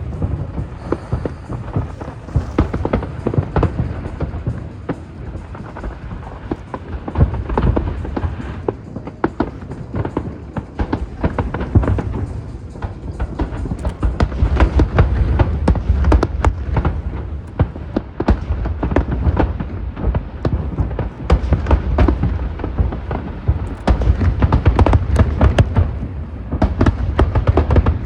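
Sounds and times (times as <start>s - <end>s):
deep rumble: 0.0s - 28.0s
fireworks cracking and booming: 0.0s - 28.0s.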